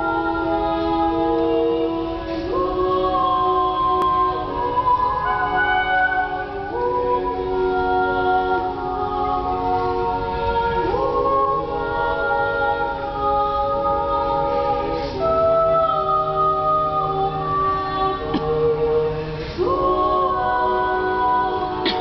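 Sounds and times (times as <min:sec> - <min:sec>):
women singing a cappella harmony: 0:00.0 - 0:22.0.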